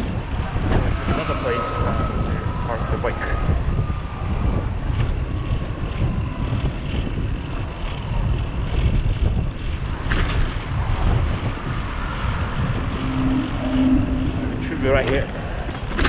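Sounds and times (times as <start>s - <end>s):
street traffic: 0.0s - 16.0s
wind buffeting microphone: 0.0s - 16.0s.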